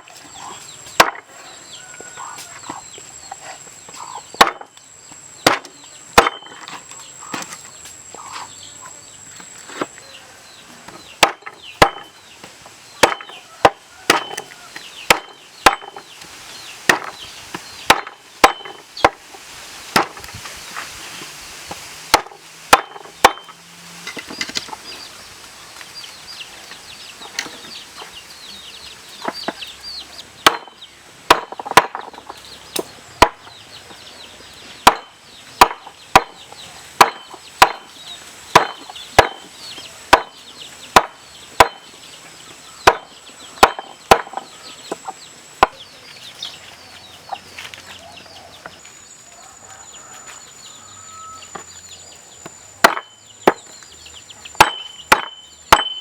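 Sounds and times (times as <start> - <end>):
chickens calling: 0.0 - 19.4, 22.7 - 56.0.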